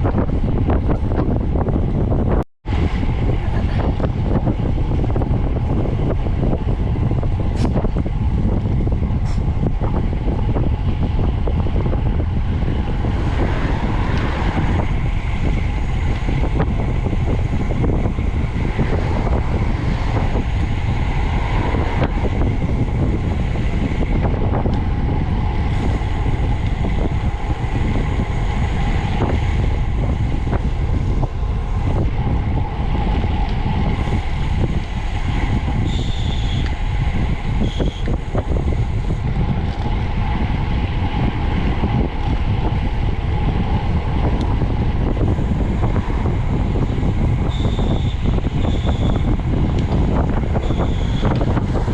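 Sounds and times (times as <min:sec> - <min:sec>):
road rumble: 0:00.0 - 0:51.9
wind buffeting microphone: 0:00.0 - 0:51.9.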